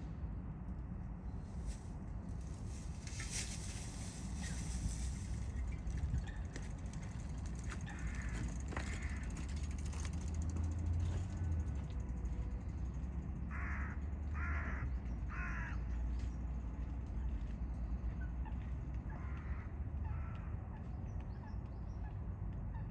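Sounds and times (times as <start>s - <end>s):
steady low rumble: 0.0s - 22.8s.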